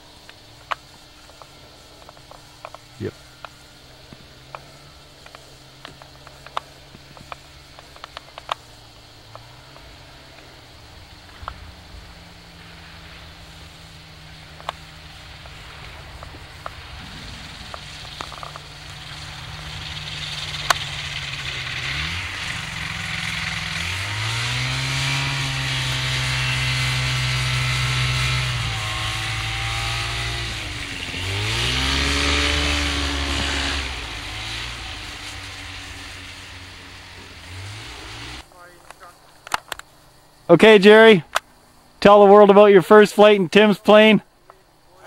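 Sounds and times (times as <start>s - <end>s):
light airplane engine and propeller: 0.0s - 42.0s.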